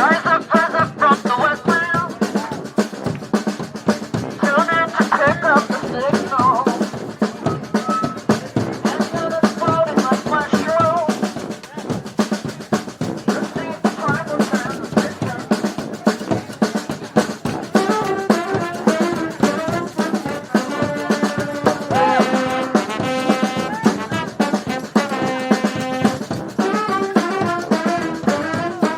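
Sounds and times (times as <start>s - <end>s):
horns holding notes: 0.0s - 28.9s
snare and bass drum groove: 0.0s - 28.9s.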